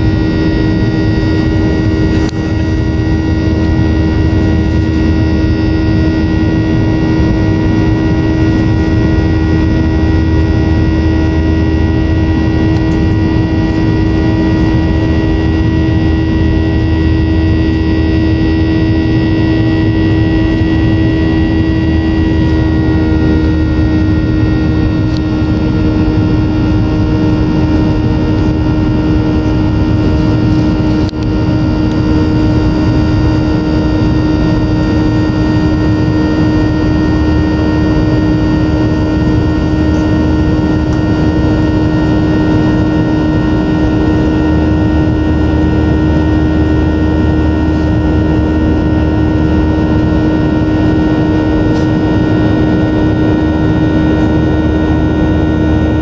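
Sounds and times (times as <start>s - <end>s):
jet engine cabin rumble: 0.0s - 56.0s
whine of fan tones: 0.0s - 56.0s.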